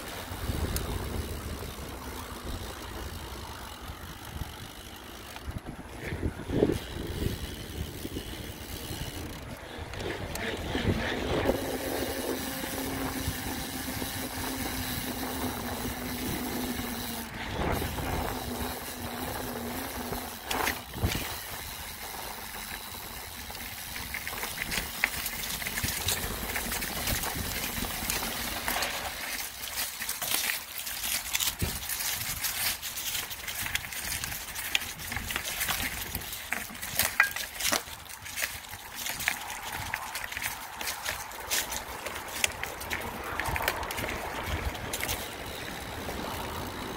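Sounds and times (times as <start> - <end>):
bike knocking and rattling: 0.0 - 46.9
wind and tyre noise: 0.0 - 46.9.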